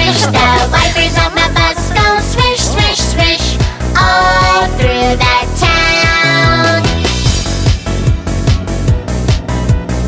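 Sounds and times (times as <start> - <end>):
upbeat instrumental children's music: 0.0 - 10.0.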